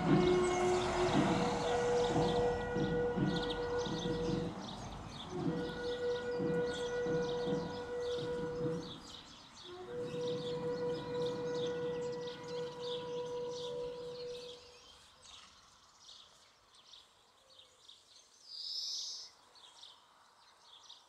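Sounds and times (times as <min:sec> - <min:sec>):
birds chirping: 0:00.0 - 0:17.1.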